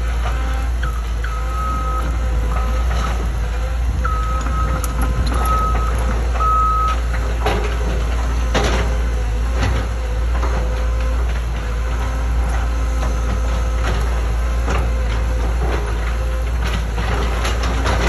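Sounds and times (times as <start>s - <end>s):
excavator diesel engine rumbling: 0.0s - 18.0s.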